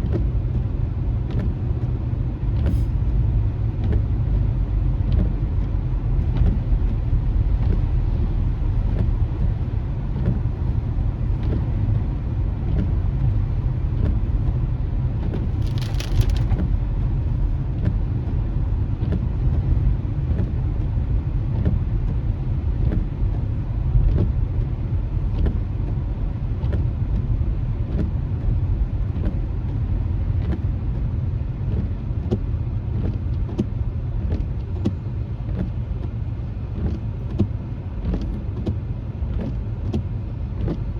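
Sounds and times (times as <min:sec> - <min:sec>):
light rain ticks: 0:00.0 - 0:40.9
tyre and engine rumble: 0:00.0 - 0:40.9.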